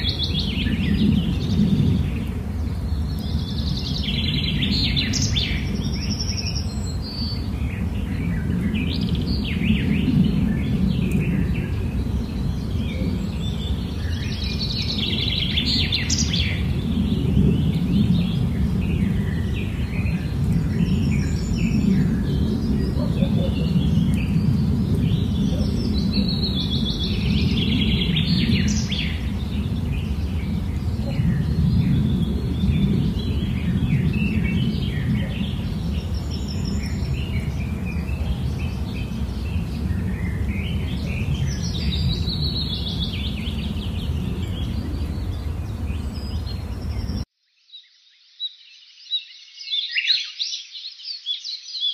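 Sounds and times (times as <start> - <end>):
small birds chirping and singing: 0.0 - 51.9.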